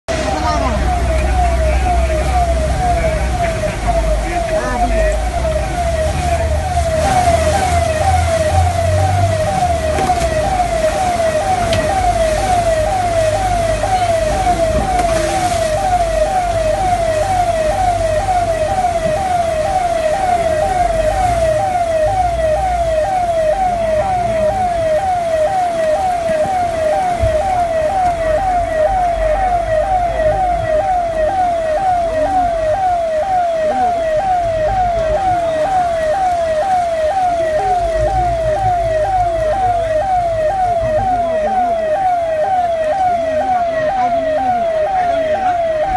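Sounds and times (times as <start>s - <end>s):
siren-like wailing tone: 0.1s - 45.9s.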